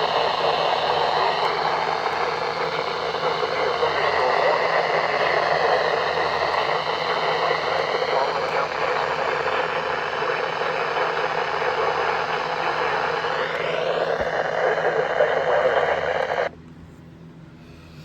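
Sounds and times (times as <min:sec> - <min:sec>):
radio static hiss: 0:00.0 - 0:16.6.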